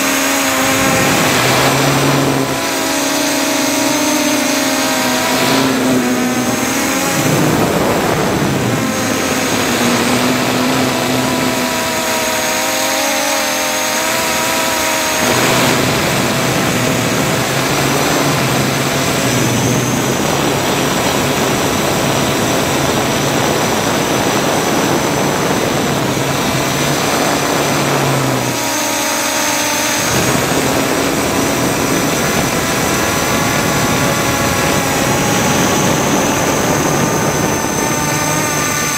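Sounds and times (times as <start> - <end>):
drone motors buzzing: 0.0 - 38.9.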